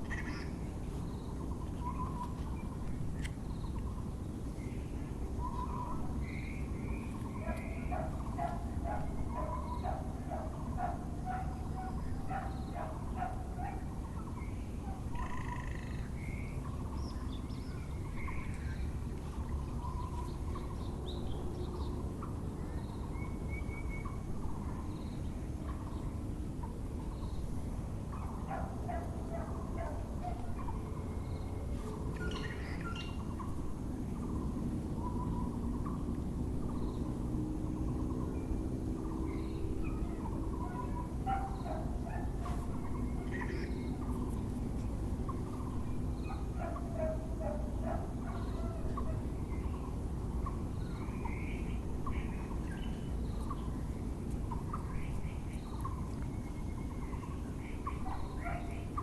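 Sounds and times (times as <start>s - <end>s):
low background rumble: 0.0s - 59.0s
small birds chirping: 0.0s - 59.0s.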